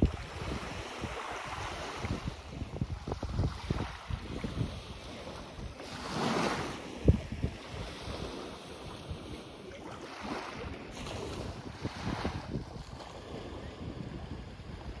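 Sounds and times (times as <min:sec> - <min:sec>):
sea waves on beach: 0:00.0 - 0:15.0
wind buffeting microphone: 0:00.0 - 0:15.0.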